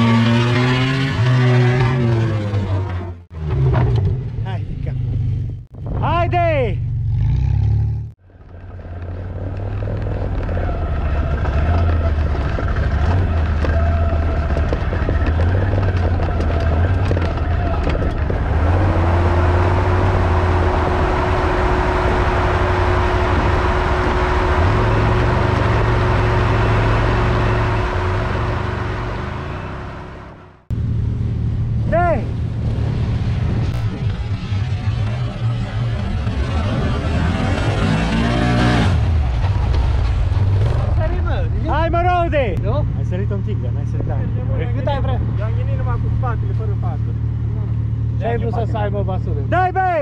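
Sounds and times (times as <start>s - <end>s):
off-road vehicle engine revving: 0.0s - 5.7s, 6.8s - 49.8s.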